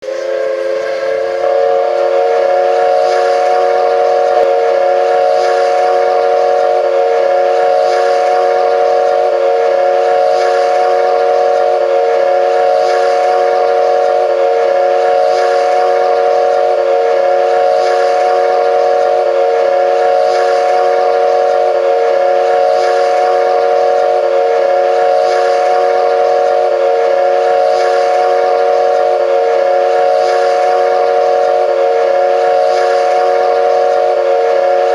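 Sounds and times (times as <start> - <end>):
horn holding steady chord: 0.0 - 34.9.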